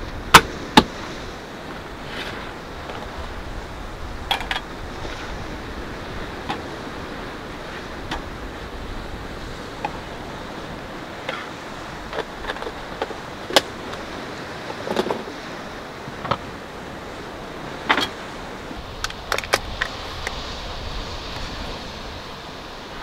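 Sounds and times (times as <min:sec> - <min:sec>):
surf: 0:00.0 - 0:23.0
wind: 0:00.0 - 0:23.0.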